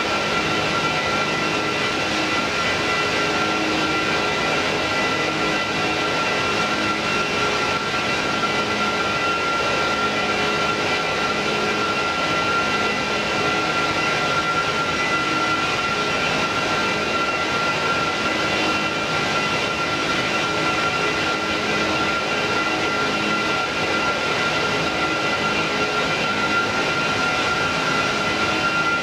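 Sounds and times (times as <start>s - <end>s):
jet engines running with whine: 0.0s - 29.0s.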